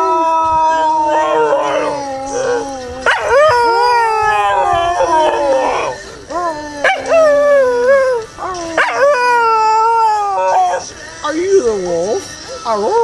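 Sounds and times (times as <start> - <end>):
person howling: 0.0 - 10.9
dog howling: 0.0 - 11.0.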